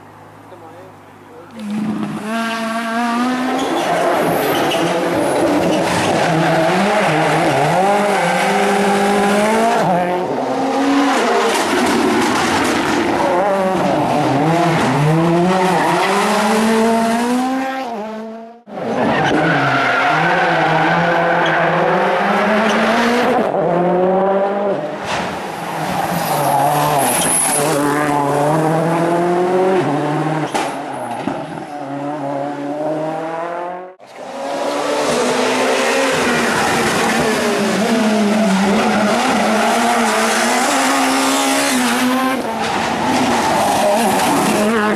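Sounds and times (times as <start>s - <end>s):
rally car engines revving: 0.2s - 44.9s.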